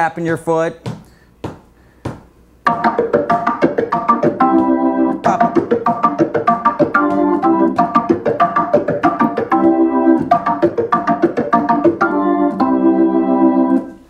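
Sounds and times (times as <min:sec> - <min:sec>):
organ playing funk riff: 0:02.6 - 0:14.0.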